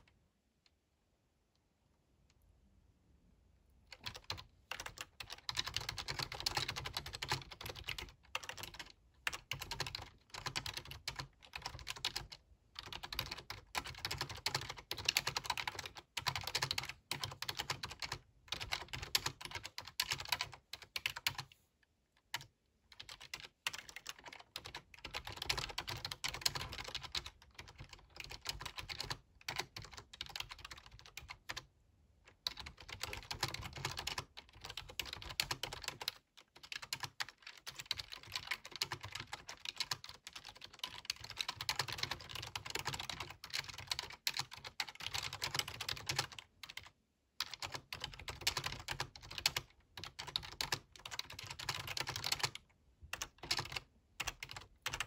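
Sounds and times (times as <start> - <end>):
typing on keyboard: 3.9 - 21.5, 22.2 - 31.7, 32.3 - 55.0.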